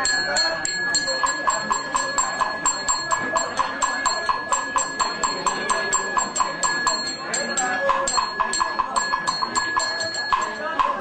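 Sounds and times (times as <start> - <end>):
steady high tone: 0.0 - 11.0.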